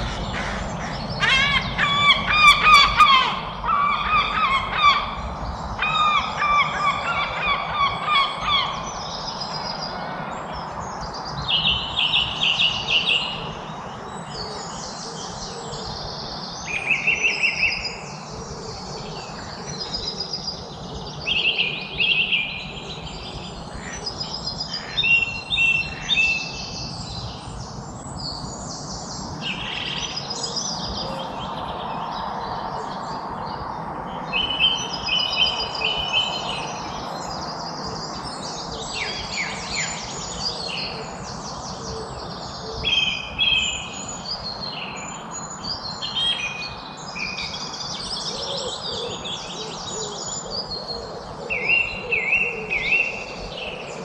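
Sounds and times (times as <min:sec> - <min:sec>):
birds calling and singing: 0:00.0 - 0:54.0
steady background noise: 0:00.0 - 0:54.0.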